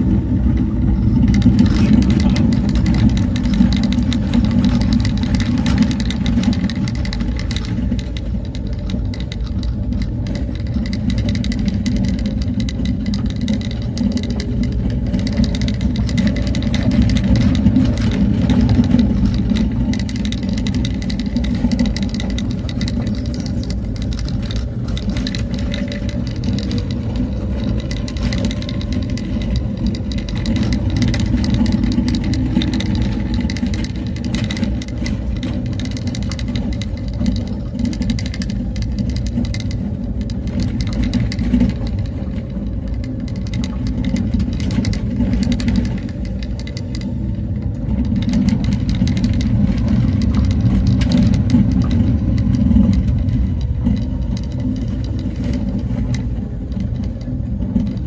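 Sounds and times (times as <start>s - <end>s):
small rattles and knocks: 0.0s - 58.0s
vehicle engine and road rumble: 0.0s - 58.0s.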